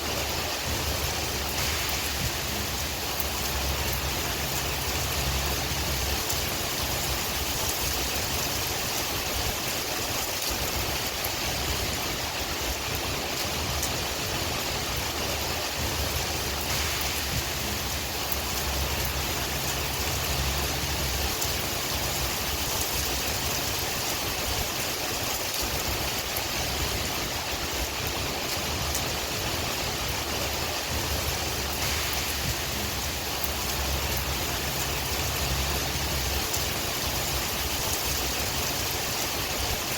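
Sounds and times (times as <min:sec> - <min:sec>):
low wind rumble: 0:00.0 - 0:39.9
steady rain: 0:00.0 - 0:39.9.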